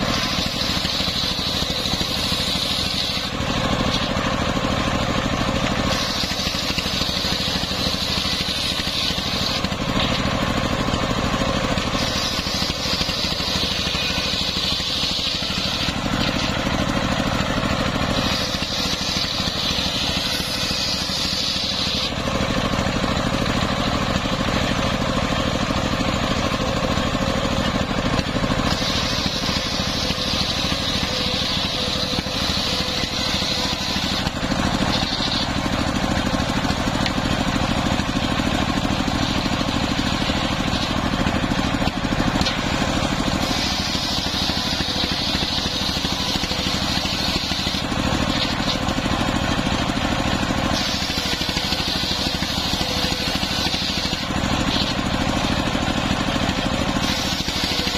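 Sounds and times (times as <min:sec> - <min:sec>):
circular saw cutting log: 0:00.0 - 0:57.9
engine running: 0:00.0 - 0:57.9.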